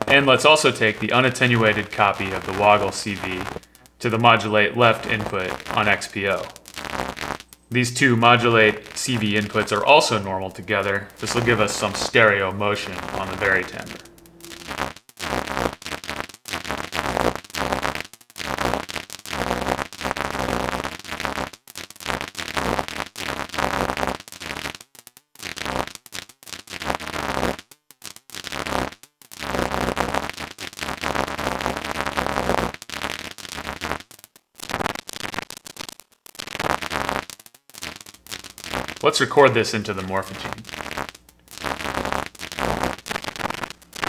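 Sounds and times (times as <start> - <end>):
crackling buzzing synthesizer bursts: 0.0 - 44.0.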